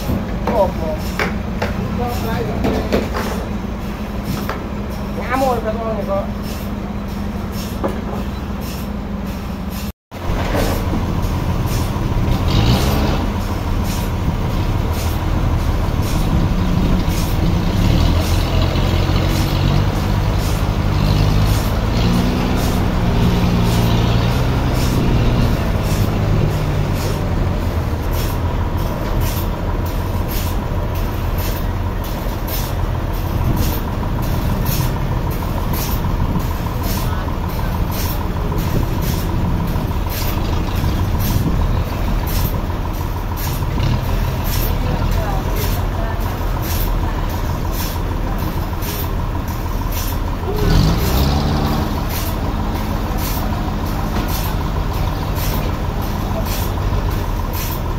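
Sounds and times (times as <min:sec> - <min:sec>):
forklift engine revving: 0:00.0 - 0:57.9.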